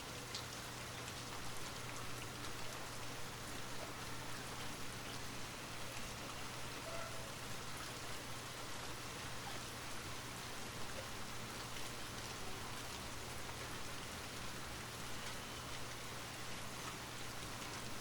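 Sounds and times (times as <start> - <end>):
light rain hiss: 0.0 - 18.0.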